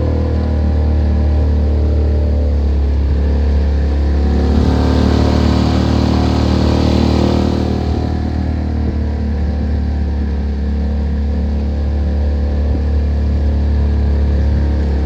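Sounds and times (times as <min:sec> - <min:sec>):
boat outboard motor running: 0:00.0 - 0:15.0.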